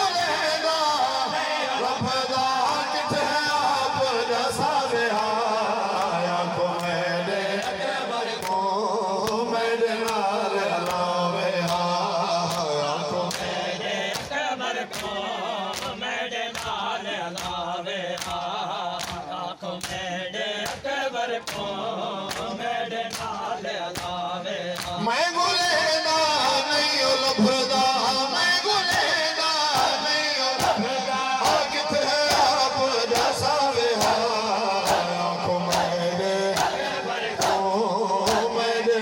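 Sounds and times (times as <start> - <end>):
men chanting in unison: 0.0 - 39.0
rhythmic chest-beating slaps: 0.2 - 39.0.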